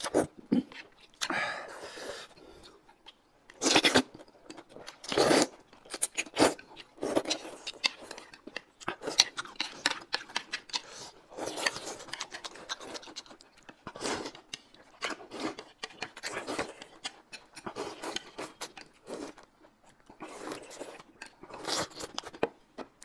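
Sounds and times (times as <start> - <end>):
chewing: 2.2 - 23.0.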